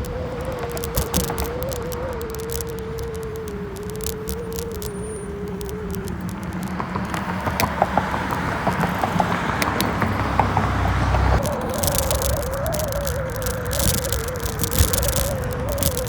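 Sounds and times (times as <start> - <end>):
bicycle rattling and clicking: 0.0 - 10.7, 11.4 - 16.0
bicycle wheel whine: 0.0 - 16.0.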